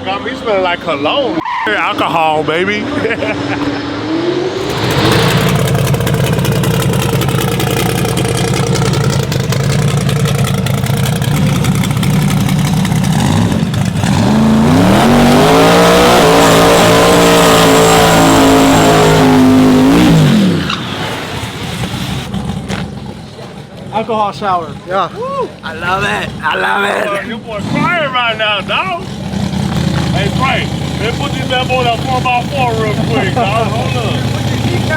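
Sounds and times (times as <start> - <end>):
truck engine revving: 1.8 - 23.7, 25.6 - 34.9.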